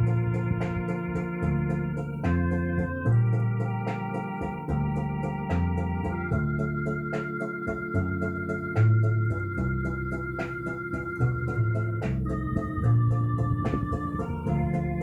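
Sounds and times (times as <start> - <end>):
drum-like ticks: 0.0 - 15.0
electronic organ chords and bass: 0.0 - 15.0.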